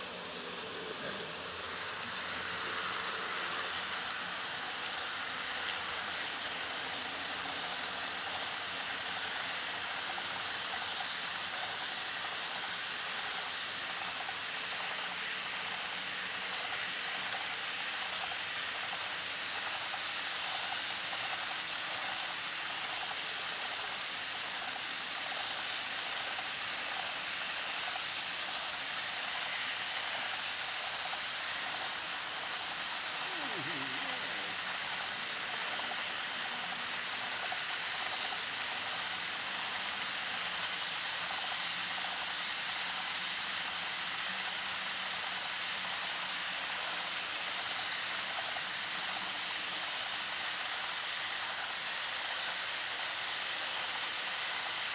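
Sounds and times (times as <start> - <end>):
model train wheels rushing on rails: 0.0 - 54.9.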